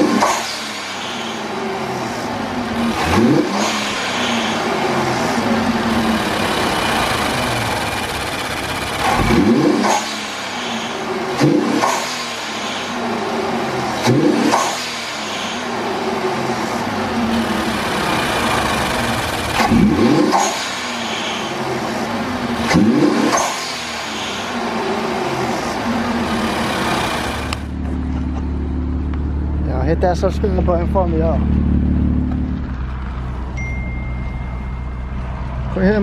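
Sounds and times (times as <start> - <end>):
car engine revving: 0.0 - 33.6.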